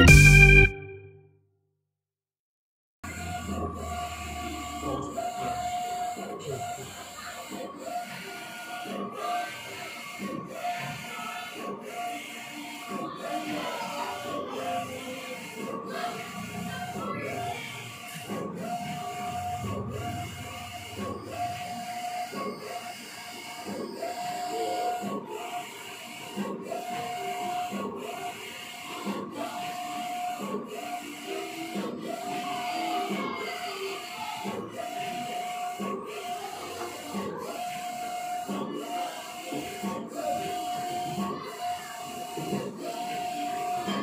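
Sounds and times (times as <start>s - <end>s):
printer carriage motor whine: 3.0s - 44.0s.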